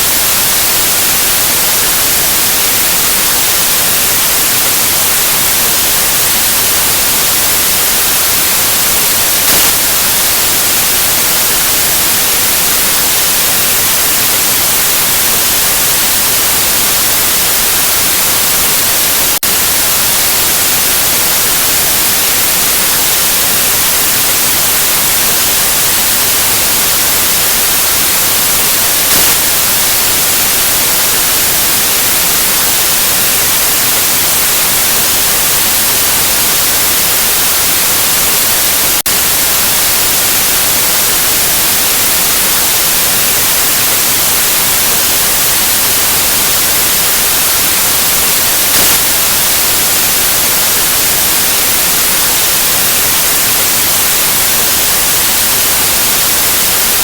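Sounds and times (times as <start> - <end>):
electronic white noise hiss: 0.0 - 57.0.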